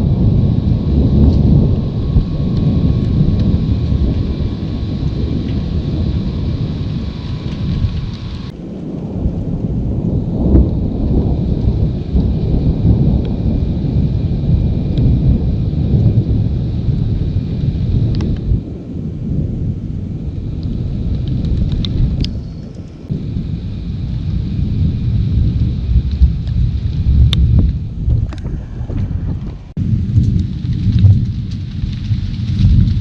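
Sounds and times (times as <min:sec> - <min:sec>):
steady rain: 0:00.0 - 0:33.0
thunder rumbling: 0:00.0 - 0:33.0.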